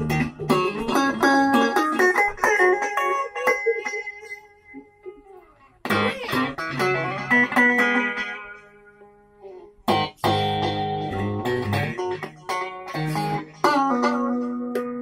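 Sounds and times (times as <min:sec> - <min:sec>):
electric guitar through amplifier: 0:00.0 - 0:15.0.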